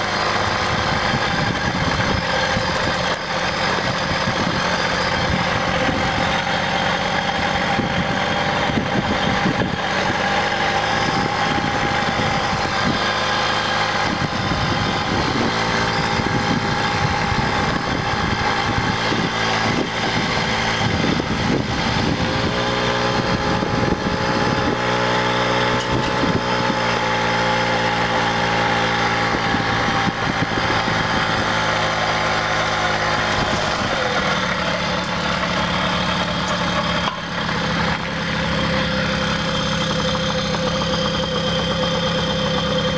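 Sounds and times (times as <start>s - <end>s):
moped engine running: 0.0s - 42.9s.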